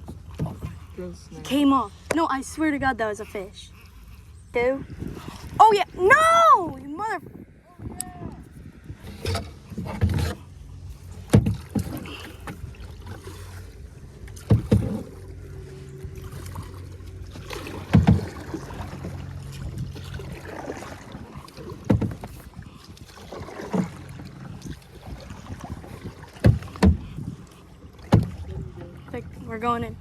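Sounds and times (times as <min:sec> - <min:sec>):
kayak knocking and splashing: 0:00.0 - 0:02.3, 0:07.8 - 0:30.0
low hum: 0:00.0 - 0:30.0.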